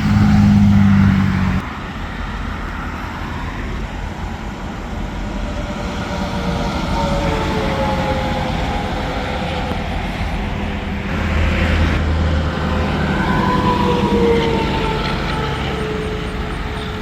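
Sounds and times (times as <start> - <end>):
highway traffic passing at speed: 0.0 - 17.0.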